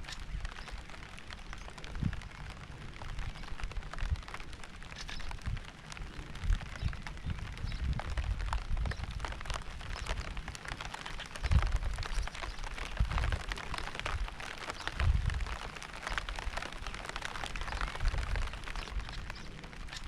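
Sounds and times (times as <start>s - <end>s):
steady rain with ticking drops: 0.0s - 20.0s.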